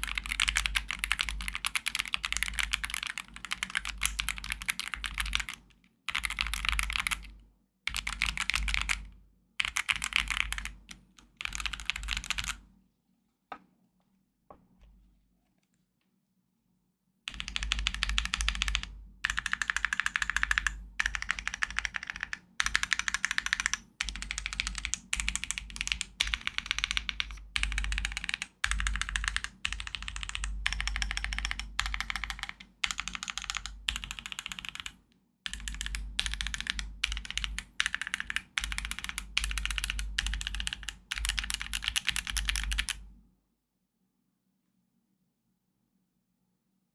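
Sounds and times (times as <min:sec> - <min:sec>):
mechanical keyboard typing: 0:00.0 - 0:07.3, 0:07.9 - 0:12.6, 0:17.3 - 0:43.0.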